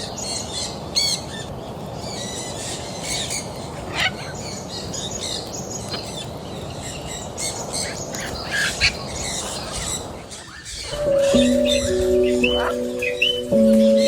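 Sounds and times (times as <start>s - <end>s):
birds chirping and squawking: 0.0s - 14.0s.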